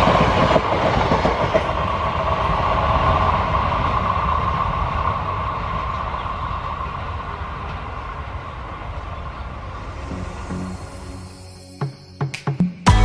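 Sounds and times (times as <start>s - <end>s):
passenger train rolling past: 0.0s - 12.3s.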